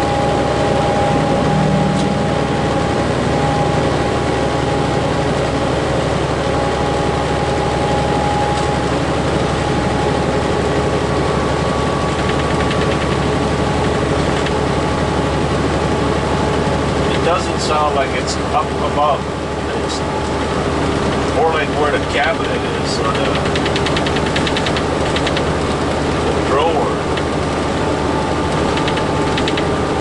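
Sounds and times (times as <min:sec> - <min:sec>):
rattle in truck cab: 0:00.0 - 0:30.0
truck engine and road drone: 0:00.0 - 0:30.0.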